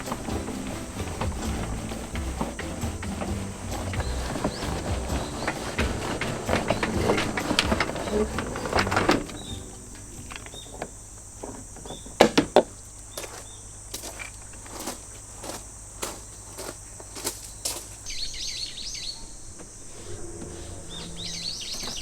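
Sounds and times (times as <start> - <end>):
clattering handling noises: 0.0 - 18.1
insects buzzing: 0.0 - 22.0.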